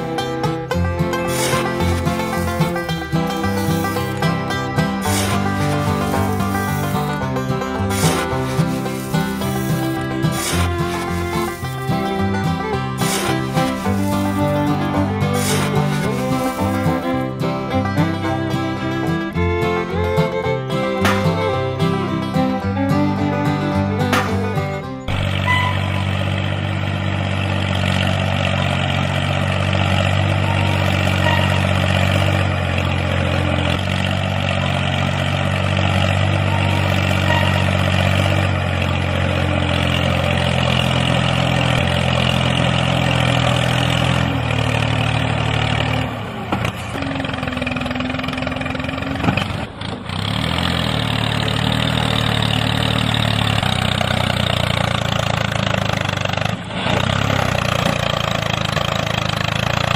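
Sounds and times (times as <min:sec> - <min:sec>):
small engine droning: 0:00.0 - 0:59.9.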